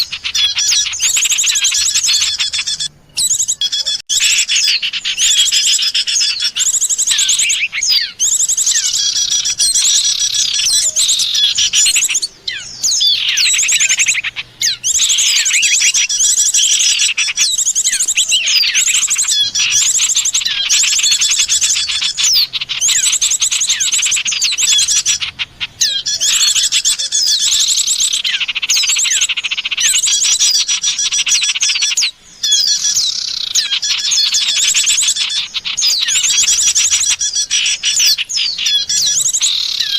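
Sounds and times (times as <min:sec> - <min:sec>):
songbirds chattering: 0:00.0 - 0:39.9.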